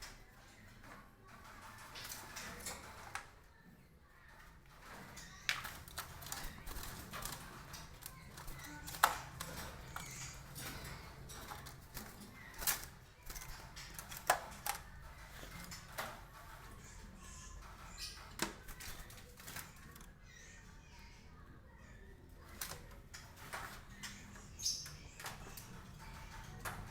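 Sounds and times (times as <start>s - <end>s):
mynas calling and clicking: 4.1s - 26.9s.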